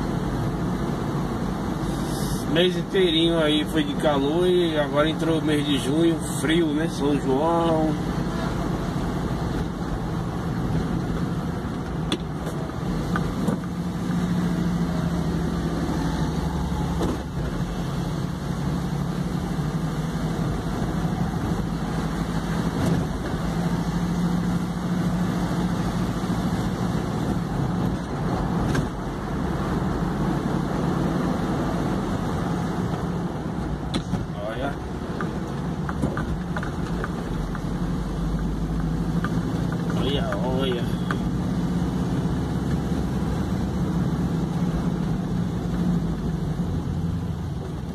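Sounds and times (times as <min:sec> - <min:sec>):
tyre and road noise: 0:00.0 - 0:47.9.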